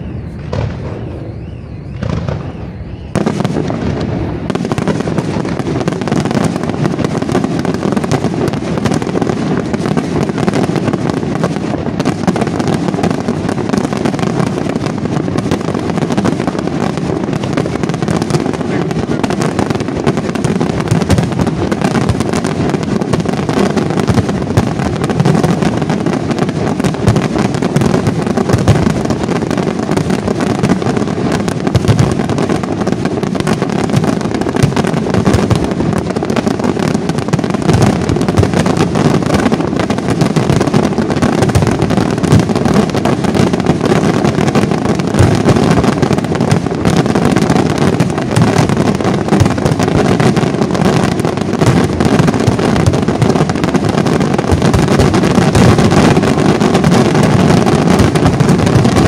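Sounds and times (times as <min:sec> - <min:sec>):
fireworks bursts and crackles: 0:00.0 - 0:59.0.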